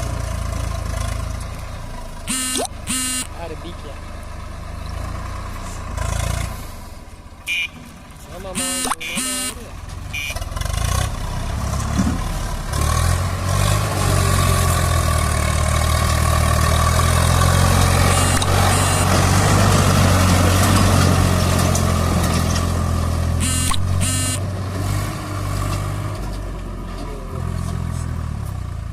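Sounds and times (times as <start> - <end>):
tractor diesel engine under load: 0.0 - 28.9.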